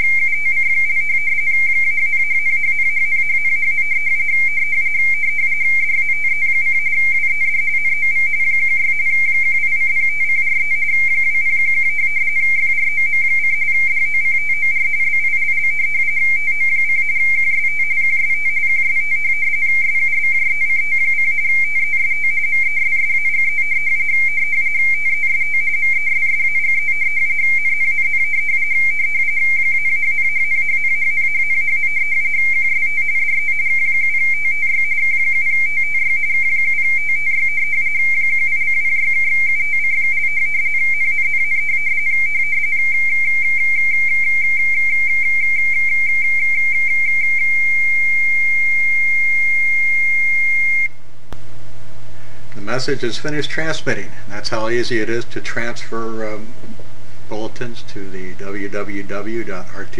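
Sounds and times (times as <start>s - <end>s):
warbling two-tone data signal: 0.0s - 51.0s
faint low hum: 0.0s - 59.9s.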